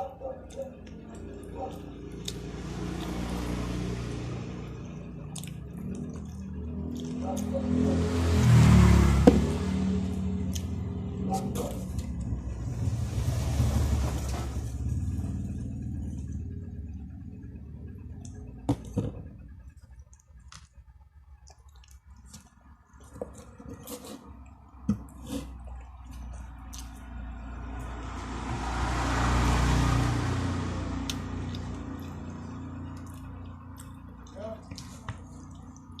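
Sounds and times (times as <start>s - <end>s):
road vehicles passing: 0.0s - 36.0s.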